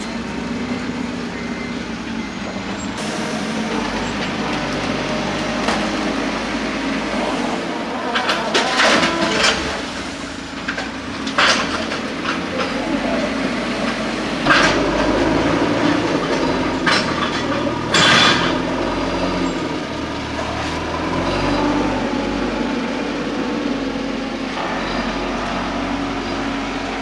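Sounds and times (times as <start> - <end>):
heavy diesel machine running: 0.0 - 27.0.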